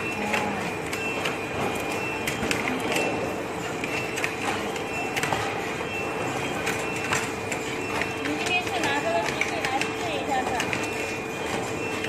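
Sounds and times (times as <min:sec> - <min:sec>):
conveyor machinery hum: 0:00.0 - 0:12.0
high machine whine: 0:00.0 - 0:12.0.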